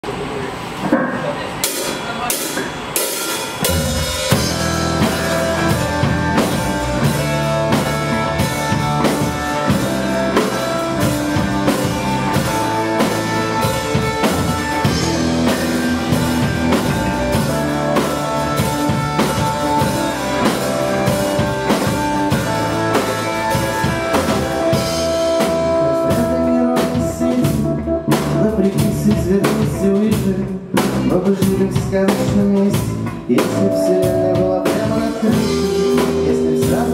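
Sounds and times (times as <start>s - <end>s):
drum kit steady beat: 1.6s - 36.9s
electric bass: 3.6s - 36.9s
electric guitar: 3.6s - 36.9s.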